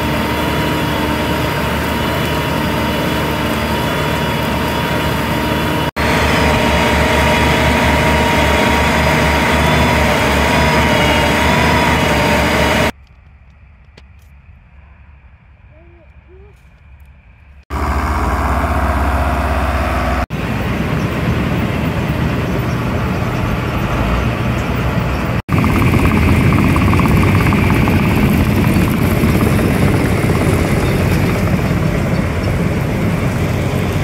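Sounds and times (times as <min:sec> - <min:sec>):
tractor diesel engine running: 0:00.0 - 0:13.0, 0:17.7 - 0:34.0.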